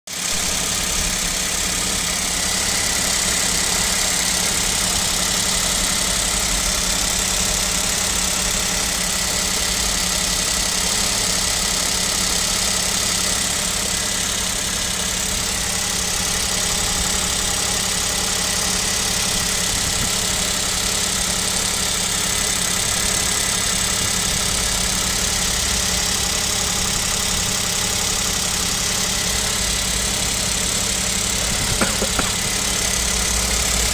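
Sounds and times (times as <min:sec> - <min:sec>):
car engine idling with knock: 0:00.2 - 0:33.9.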